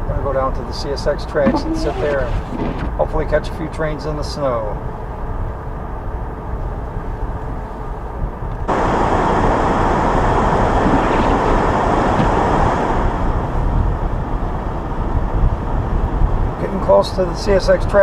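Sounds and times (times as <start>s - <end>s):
car road rumble: 0.6s - 16.6s.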